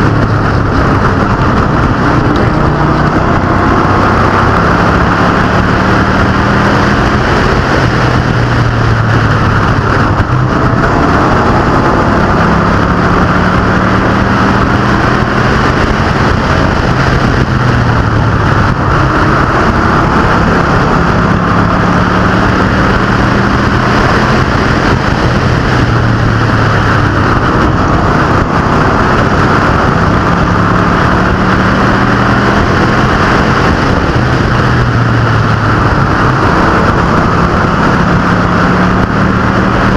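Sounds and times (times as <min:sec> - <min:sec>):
race car engines at high revs: 0:00.0 - 0:39.9.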